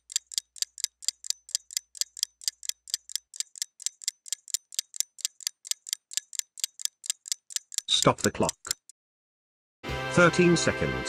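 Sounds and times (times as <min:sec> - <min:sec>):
clock ticking: 0:00.0 - 0:09.0.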